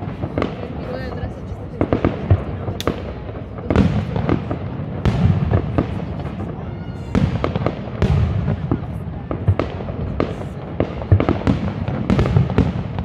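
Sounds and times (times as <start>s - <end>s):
firework bangs with rumble: 0.0s - 13.0s
firework crackles: 0.0s - 13.0s.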